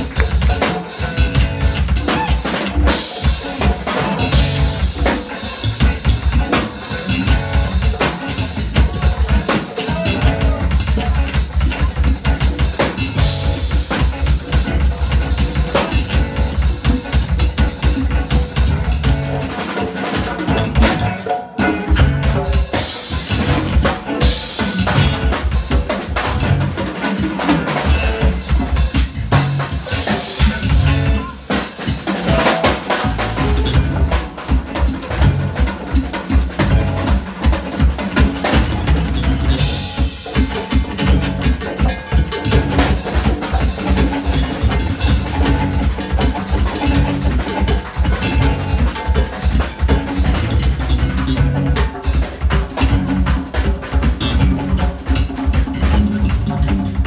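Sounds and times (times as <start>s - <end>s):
drum kit beat: 0.0s - 57.0s
electric bass: 0.0s - 57.0s
electric guitars: 0.0s - 57.0s.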